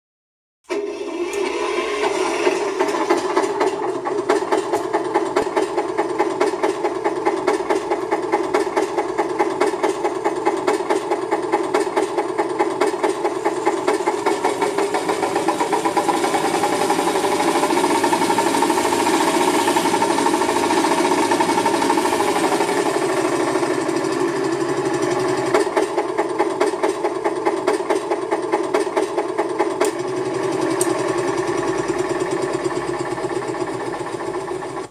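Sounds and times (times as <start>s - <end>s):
synthesized tractor engine chugging: 0.8s - 34.9s.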